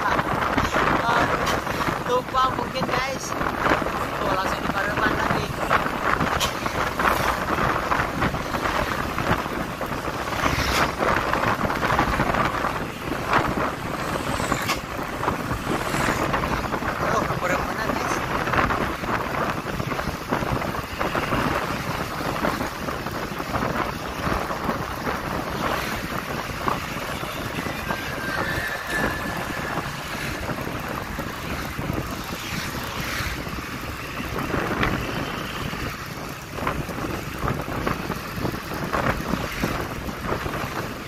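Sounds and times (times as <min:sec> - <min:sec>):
engine and road noise: 0:00.0 - 0:41.0
wind buffeting microphone: 0:00.0 - 0:41.0.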